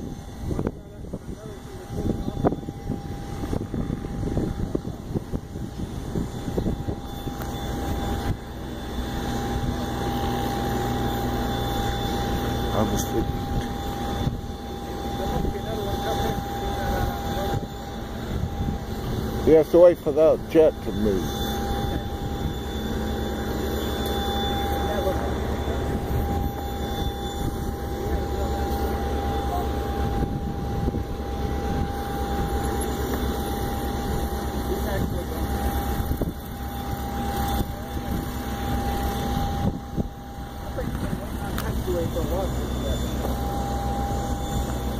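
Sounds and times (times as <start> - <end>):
wind buffeting microphone: 0.0 - 42.2
distant jet engines: 0.0 - 44.9.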